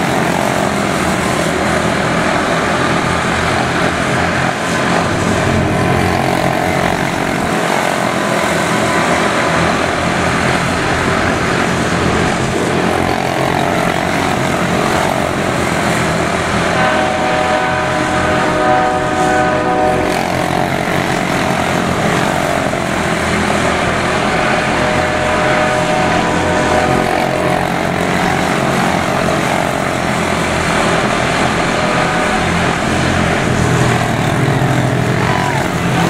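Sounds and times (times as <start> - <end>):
small race car engines droning: 0.0 - 36.0.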